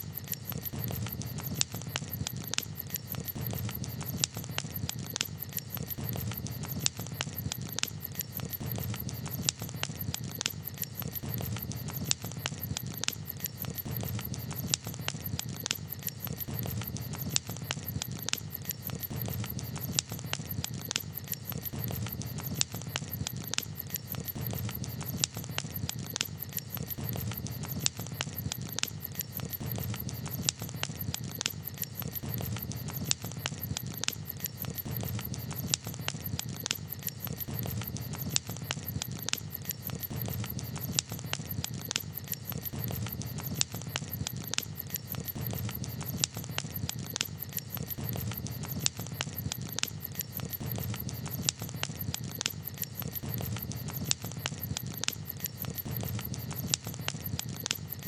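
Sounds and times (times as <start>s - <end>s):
campfire popping and snapping: 0.0s - 58.0s
fire low rumble: 0.1s - 58.0s.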